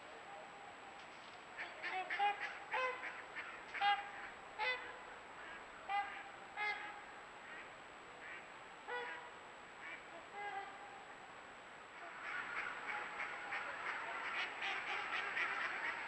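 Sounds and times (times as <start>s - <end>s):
faint steady hiss: 0.0s - 16.0s
geese honking: 1.6s - 11.1s, 12.0s - 16.0s.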